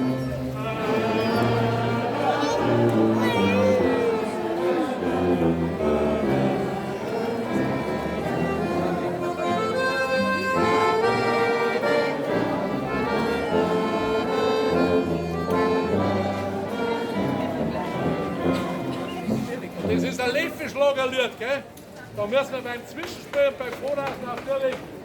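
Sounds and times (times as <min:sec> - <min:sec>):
accordion folk tune: 0:00.0 - 0:20.8.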